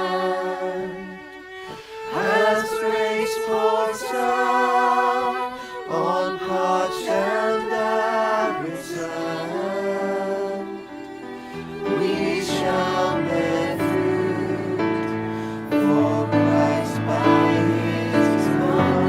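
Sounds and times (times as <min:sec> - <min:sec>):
voices singing worship music: 0:00.0 - 0:19.0.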